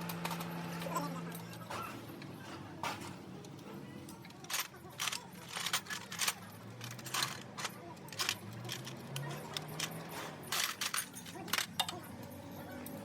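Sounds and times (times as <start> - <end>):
metallic clinks and taps: 1.3 - 13.0.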